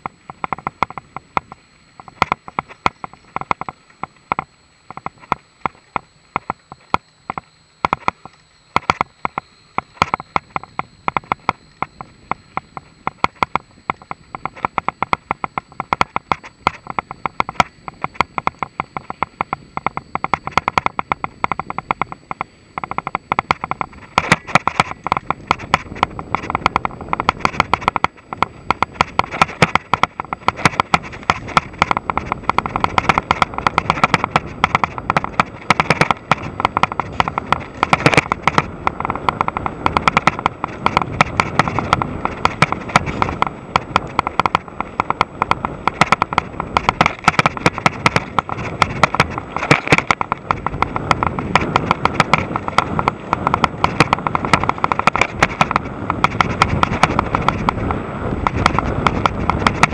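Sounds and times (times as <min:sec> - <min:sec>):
mountain bike rattling on trail: 0:00.0 - 0:59.9.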